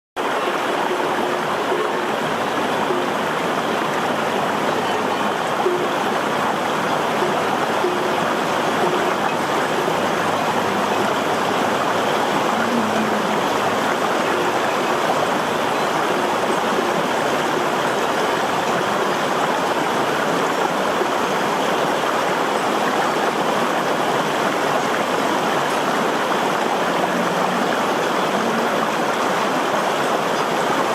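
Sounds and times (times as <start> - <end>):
steady rushing water: 0.2 - 30.9.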